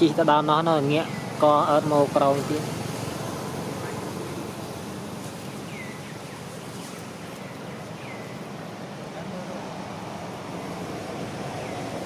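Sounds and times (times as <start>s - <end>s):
light wind: 0.0s - 12.0s.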